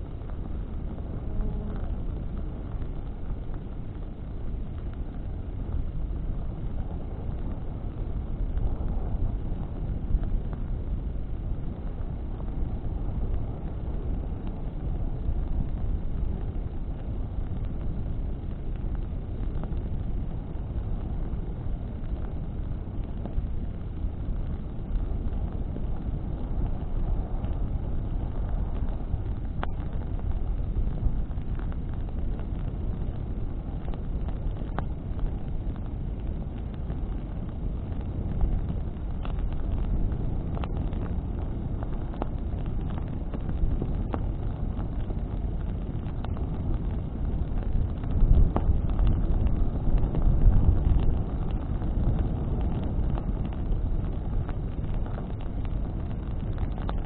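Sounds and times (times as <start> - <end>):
burning wood crackling: 0.0 - 57.0
roar of flames and wind: 0.0 - 57.0.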